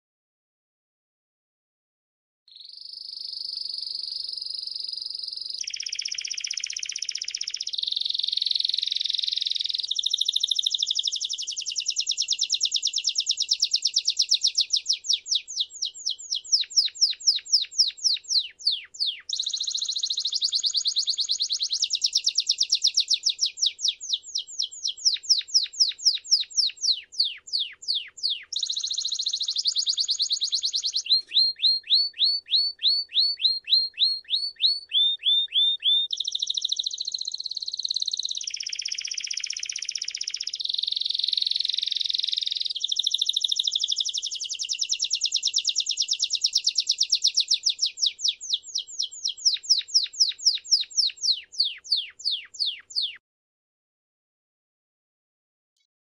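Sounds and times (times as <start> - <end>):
canary singing: 2.5 - 53.2.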